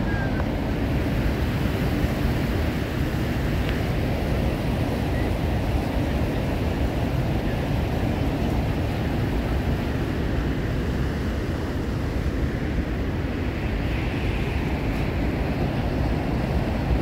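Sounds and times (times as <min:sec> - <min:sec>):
rushing water rumble: 0:00.0 - 0:17.0.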